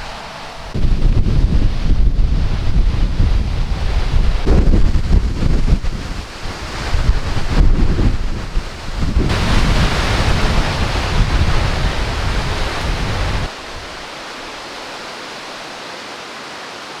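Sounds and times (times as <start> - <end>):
wind buffeting microphone: 0.0 - 14.7
heavy rain hissing: 0.0 - 17.0.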